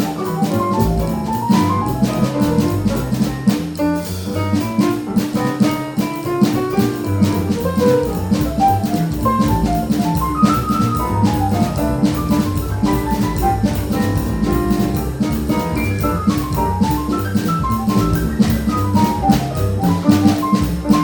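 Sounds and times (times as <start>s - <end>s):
bass: 0.0s - 21.0s
drum kit: 0.0s - 21.0s
quick jazz melody: 0.0s - 21.0s.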